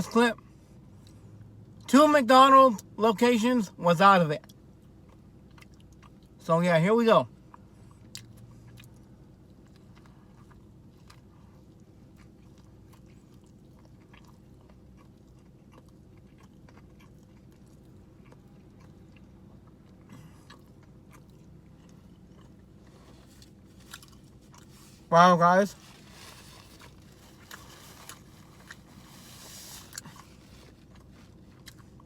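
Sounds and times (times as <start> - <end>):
person chewing crunchily: 4.4 - 6.4, 7.5 - 32.0.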